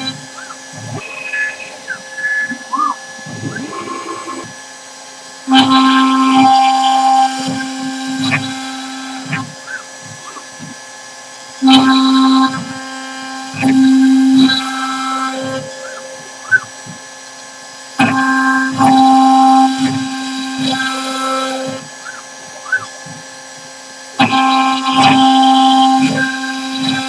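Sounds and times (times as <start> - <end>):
rising and falling machine whines: 0.0 - 27.0
router bit cutting wood: 0.0 - 27.0.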